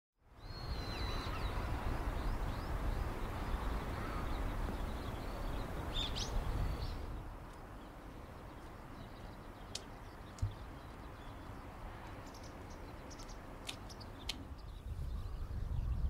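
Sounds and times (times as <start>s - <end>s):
bird chirps: 0.4s - 16.0s.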